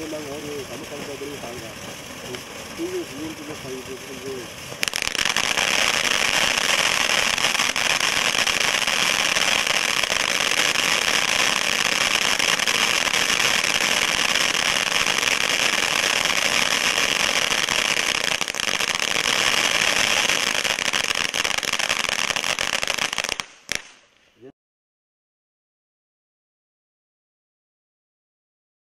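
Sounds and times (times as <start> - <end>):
firework crackling hiss: 0.0 - 24.3
firework pops: 0.8 - 24.3.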